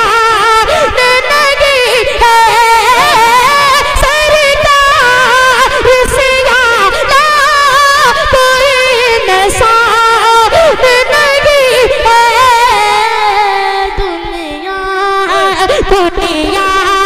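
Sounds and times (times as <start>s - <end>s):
boy singing into a microphone: 0.0s - 17.0s.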